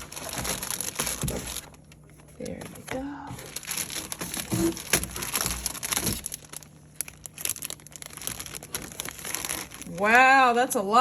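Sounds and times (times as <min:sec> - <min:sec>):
packaging crumpling and crinkling: 0:00.0 - 0:10.7.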